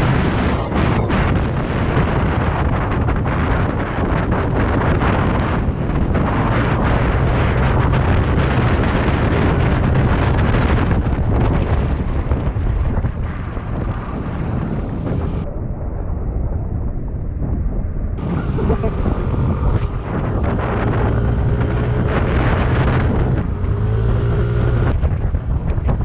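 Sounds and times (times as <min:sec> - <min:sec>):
low rumble: 0:00.0 - 0:26.0
wind buffeting microphone: 0:00.0 - 0:26.0.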